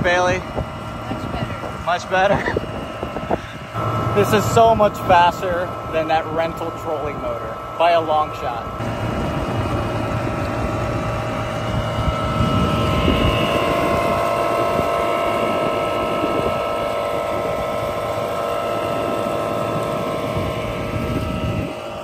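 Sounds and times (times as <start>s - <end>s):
electric outboard motor whining: 0.0s - 22.0s.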